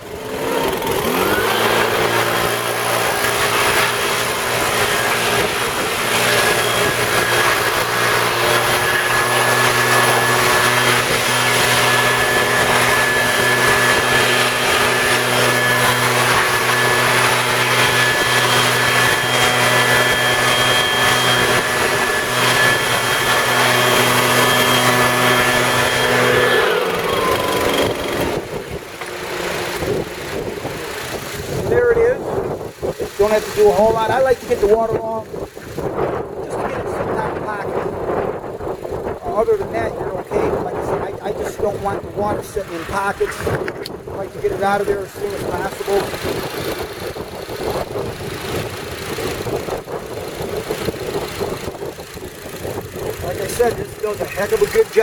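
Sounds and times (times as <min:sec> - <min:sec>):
blower whining: 0:00.0 - 0:55.0.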